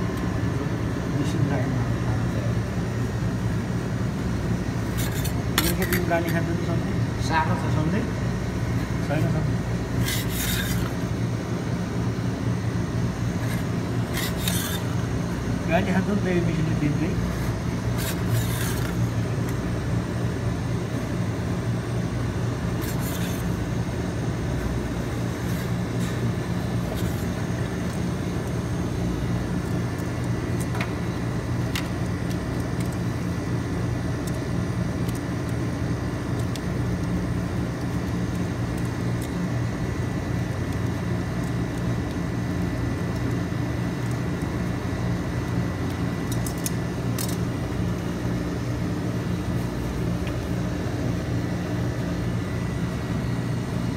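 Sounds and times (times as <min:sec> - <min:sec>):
refrigeration unit humming: 0:00.0 - 0:53.9.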